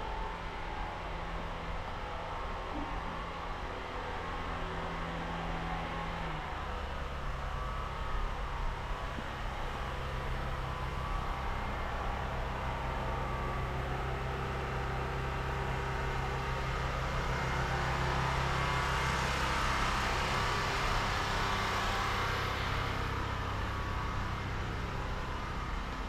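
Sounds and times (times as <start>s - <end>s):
steady low street hum: 0.0s - 26.0s.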